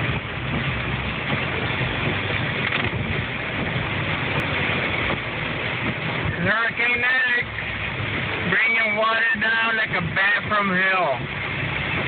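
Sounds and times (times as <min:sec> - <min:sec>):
heavy rain pounding on a car: 0:00.0 - 0:12.0
road noise: 0:00.0 - 0:12.0.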